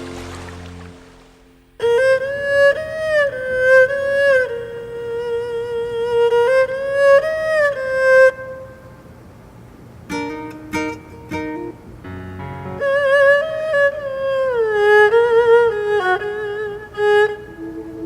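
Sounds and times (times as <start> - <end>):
bowed string melody: 0.0 - 9.1, 10.1 - 18.0
plucked string notes: 0.0 - 9.1, 10.1 - 18.0.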